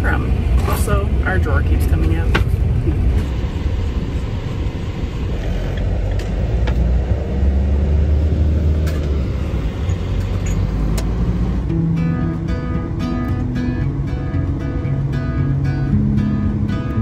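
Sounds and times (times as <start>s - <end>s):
van engine and road rumble: 0.0s - 17.0s.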